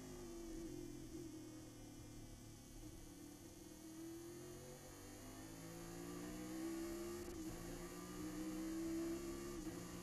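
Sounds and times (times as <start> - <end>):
muffled race car engine drone: 0.0 - 10.0.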